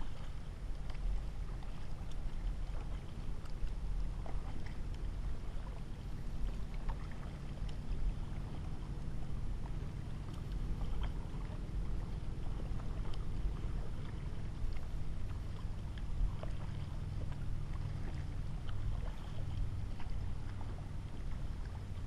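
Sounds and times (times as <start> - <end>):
paddle splashing water: 0.0 - 22.0
steady low rumble: 0.0 - 22.0.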